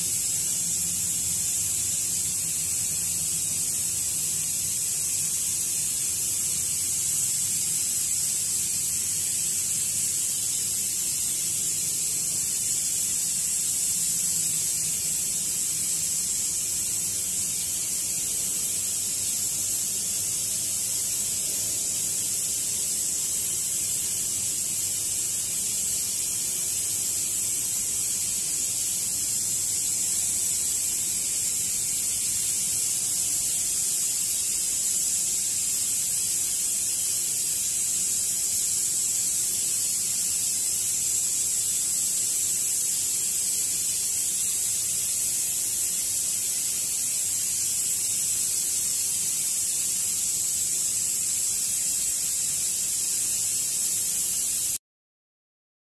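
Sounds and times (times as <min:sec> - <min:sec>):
high-pitched hiss: 0:00.0 - 0:54.8.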